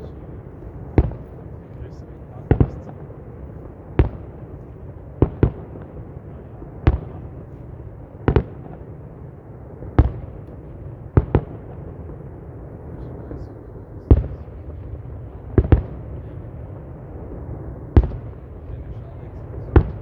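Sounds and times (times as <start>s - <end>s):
fireworks booming: 0.0s - 20.0s
low background rumble: 0.0s - 20.0s.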